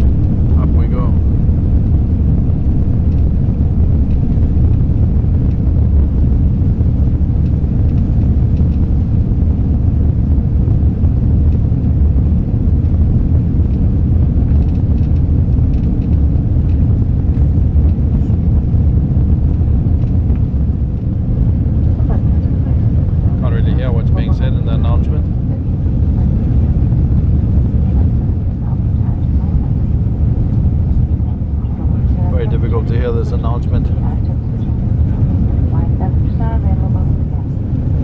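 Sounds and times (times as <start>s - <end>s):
jet engines rumbling in cabin: 0.0s - 38.0s.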